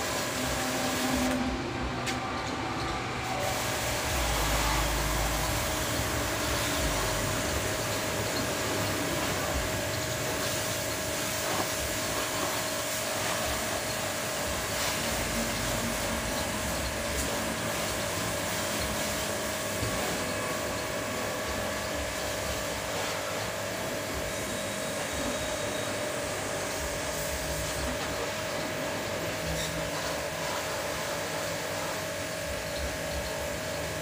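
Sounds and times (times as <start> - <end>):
water jet hissing: 0.0 - 1.5, 3.2 - 34.0
pressure washer motor whine: 0.0 - 34.0.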